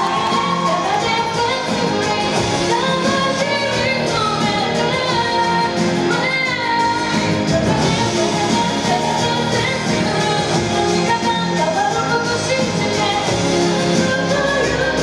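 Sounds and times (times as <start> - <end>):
backing track music: 0.0 - 15.0
woman singing pop song: 0.0 - 15.0.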